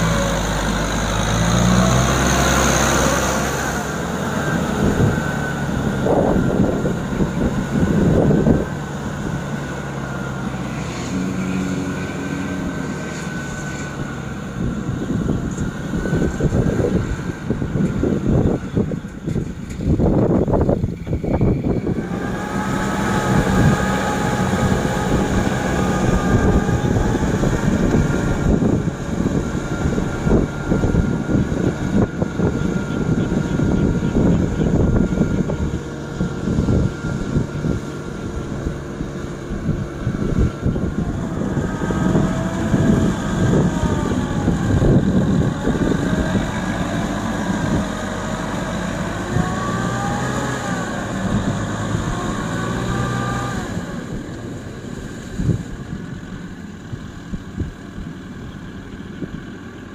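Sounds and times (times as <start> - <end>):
rotary tiller churning mud: 0.0 - 19.9, 21.7 - 55.8
tractor diesel engine under load: 0.0 - 59.9.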